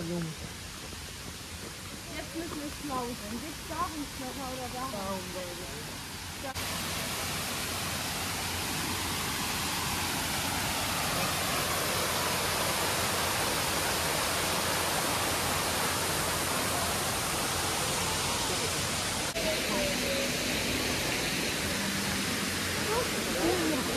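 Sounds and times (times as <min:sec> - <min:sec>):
rush of running water: 0:00.0 - 0:23.9.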